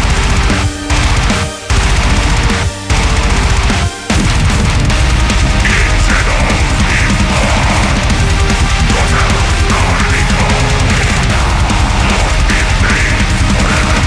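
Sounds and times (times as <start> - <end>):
distorted guitars: 0.0 - 14.0
fast dense drumming: 0.0 - 14.0.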